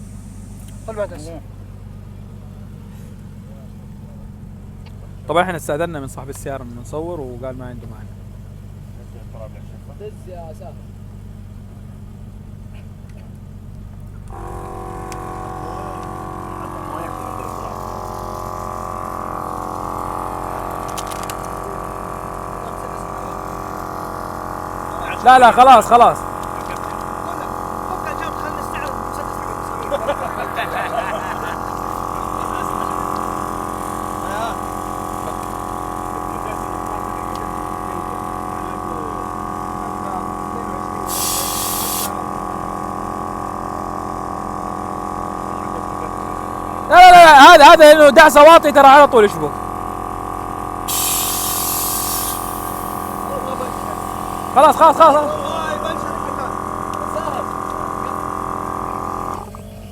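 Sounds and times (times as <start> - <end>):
air compressor running: 0.0 - 10.0, 10.8 - 59.9.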